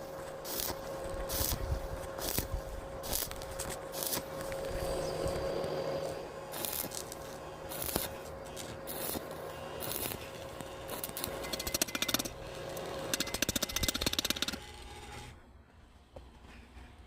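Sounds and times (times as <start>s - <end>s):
arc welding crackling buzz: 0.0s - 15.4s.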